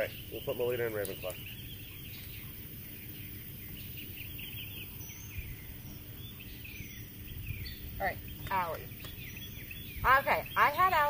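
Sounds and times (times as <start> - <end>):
small birds chirping: 0.0 - 11.0
low background rumble: 1.4 - 11.0.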